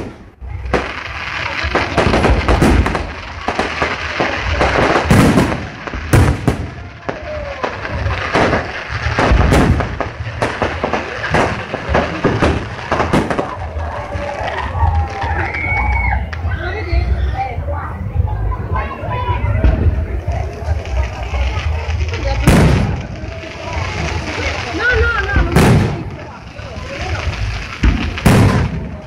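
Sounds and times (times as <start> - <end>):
fireworks bursting bangs: 0.0 - 16.5, 18.7 - 29.0
fireworks crackle: 0.0 - 29.0.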